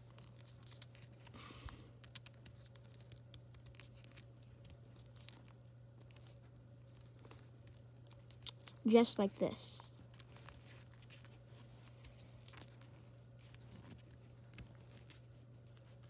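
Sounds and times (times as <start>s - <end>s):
paper crinkling as it is folded: 0.0s - 16.0s.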